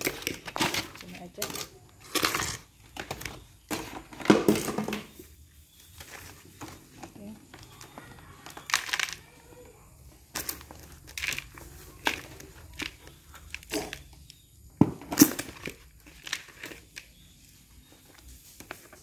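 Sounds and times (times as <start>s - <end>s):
potting soil rustling into plastic pot: 0.0s - 19.0s.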